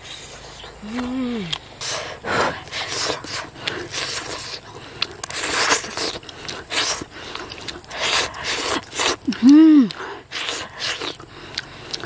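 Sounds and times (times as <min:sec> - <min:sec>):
person chewing wet smacks: 0:00.0 - 0:12.0.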